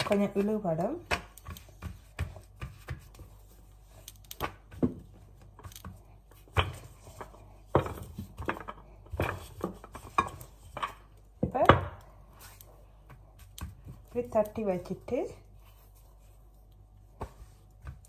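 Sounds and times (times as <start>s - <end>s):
hands slapping dough: 0.0s - 18.0s.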